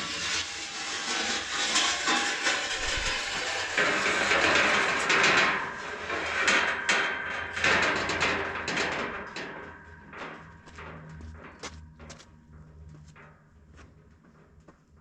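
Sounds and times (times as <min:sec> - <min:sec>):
knocks and clatter on metal frame: 0:01.5 - 0:15.0.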